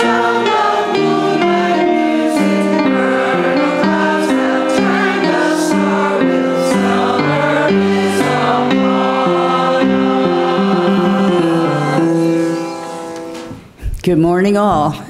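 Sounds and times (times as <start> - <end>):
choir singing held chords: 0.0 - 13.6.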